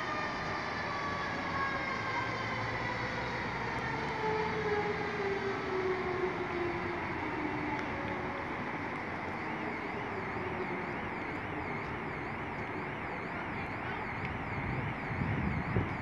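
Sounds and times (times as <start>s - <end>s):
road traffic: 0.0s - 16.0s
sweeping alarm tone: 0.0s - 16.0s
wind: 0.0s - 16.0s.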